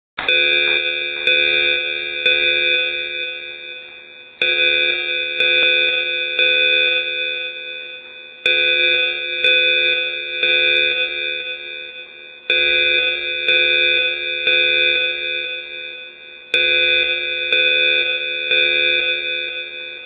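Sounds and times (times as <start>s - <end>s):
alarm chime bell tones: 0.2s - 20.0s.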